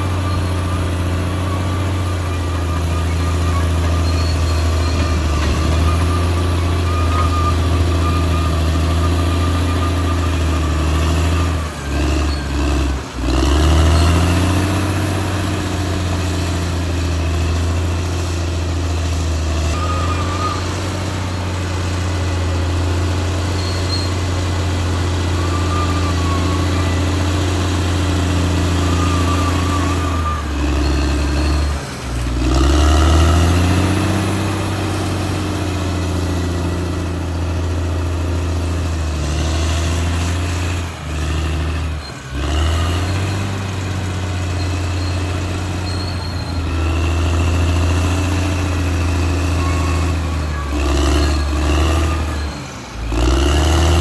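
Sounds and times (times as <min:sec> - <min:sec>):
wavering high squeal: 0:00.0 - 0:38.8, 0:39.7 - 0:54.0
bulldozer diesel engine: 0:00.0 - 0:54.0.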